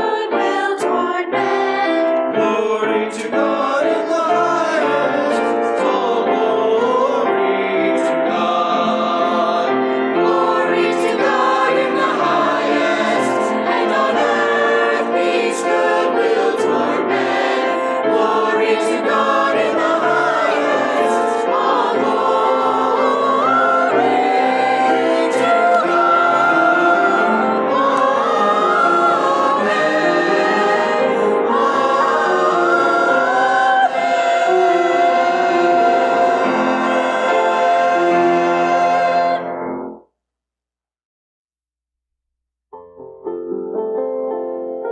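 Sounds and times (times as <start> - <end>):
choir singing with instruments: 0.0 - 40.0.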